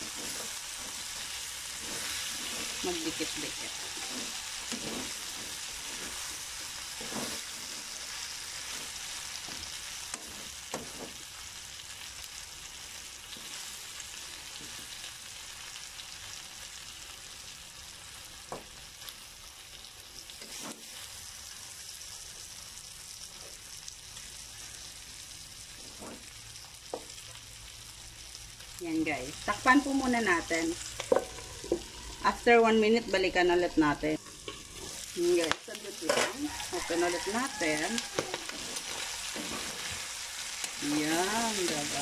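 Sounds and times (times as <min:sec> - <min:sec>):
meat sizzling in a frying pan: 0:00.0 - 0:42.0.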